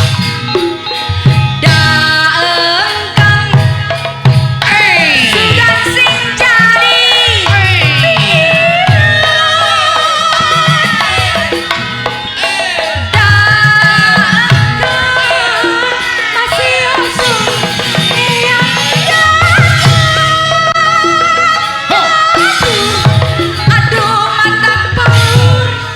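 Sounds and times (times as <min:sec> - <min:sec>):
gamelan music: 0:00.0 - 0:25.9
person singing: 0:01.6 - 0:25.9.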